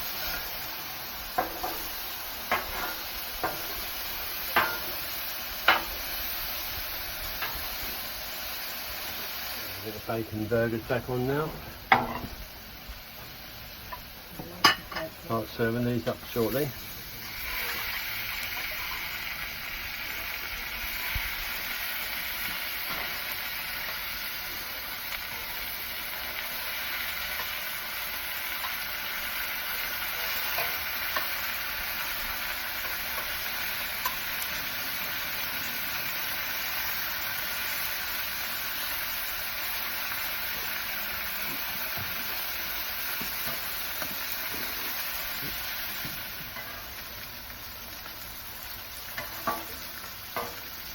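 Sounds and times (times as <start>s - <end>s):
burgers sizzling on a griddle: 0.0s - 50.9s.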